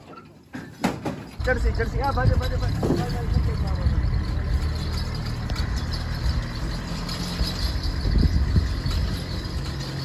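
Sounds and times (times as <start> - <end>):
truck engine running: 1.4 - 10.0.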